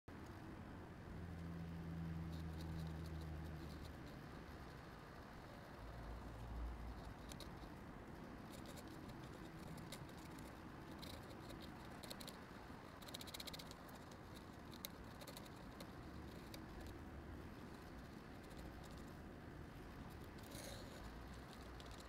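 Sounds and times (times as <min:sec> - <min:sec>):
steady low hiss: 0:00.1 - 0:22.0.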